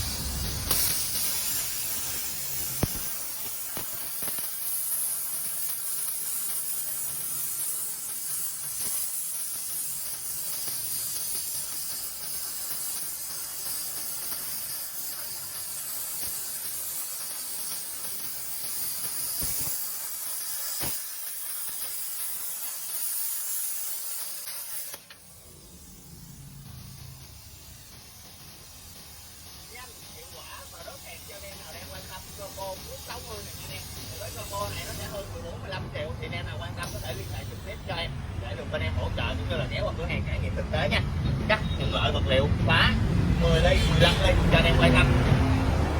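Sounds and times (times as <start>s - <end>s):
plasma cutter hissing: 0.0s - 45.9s.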